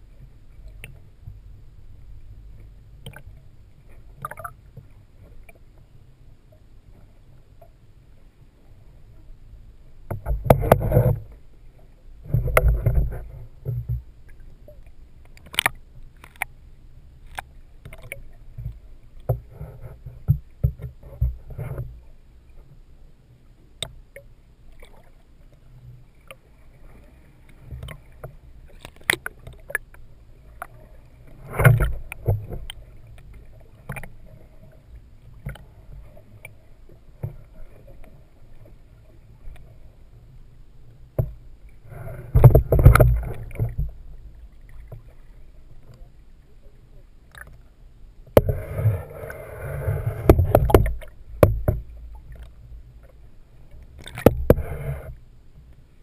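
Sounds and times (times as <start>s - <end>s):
muffled underwater sloshing: 0.0s - 56.0s.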